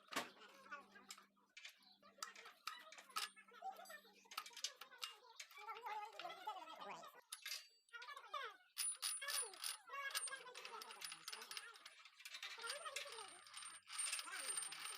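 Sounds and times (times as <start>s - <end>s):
metal gearbox parts clinking: 1.0s - 6.6s, 7.2s - 8.2s, 8.8s - 14.9s.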